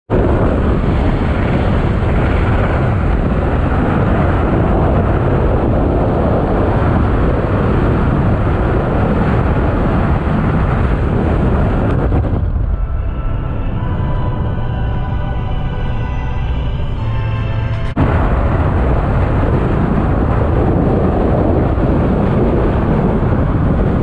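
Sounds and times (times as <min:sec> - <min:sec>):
car wind and road noise: 0:00.1 - 0:24.0.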